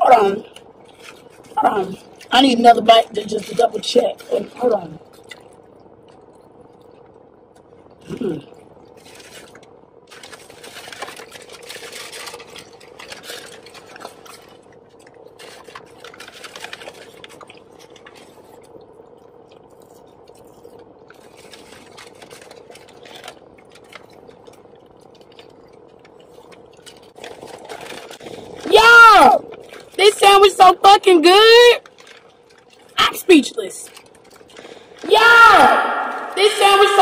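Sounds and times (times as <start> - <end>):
crunchy chewing: 0.0 - 28.7, 29.3 - 30.2, 31.8 - 37.0
faint hum: 0.0 - 37.0.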